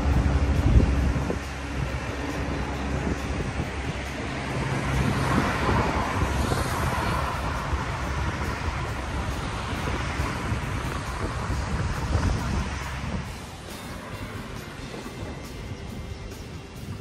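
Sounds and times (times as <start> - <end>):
steady rumble of cars: 0.0 - 17.0
vehicle passing: 0.0 - 17.0.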